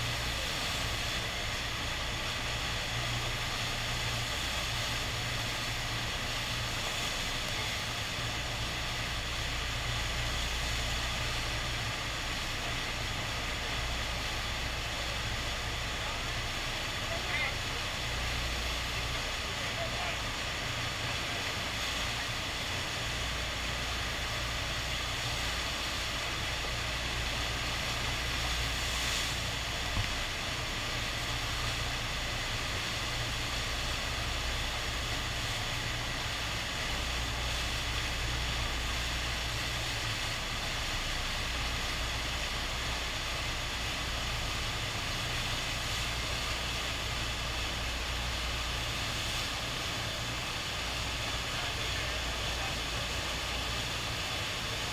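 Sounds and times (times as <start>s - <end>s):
rushing water roar: 0.0s - 54.9s.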